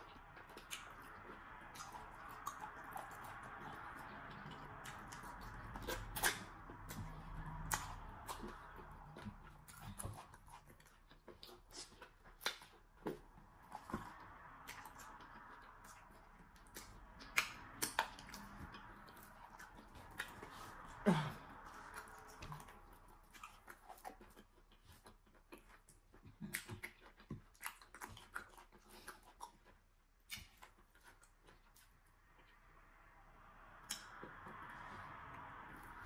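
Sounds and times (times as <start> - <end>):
mouth smacking and chewing: 0.0 - 33.0, 33.7 - 36.0.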